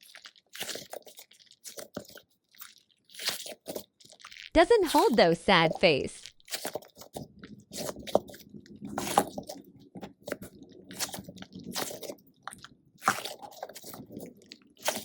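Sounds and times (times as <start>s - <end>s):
squishy toy squelching: 0.0s - 15.0s.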